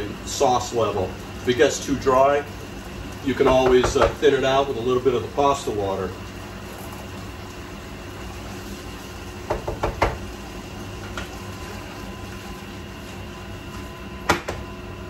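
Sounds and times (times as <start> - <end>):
exhaust hood fan humming: 0.0 - 15.0.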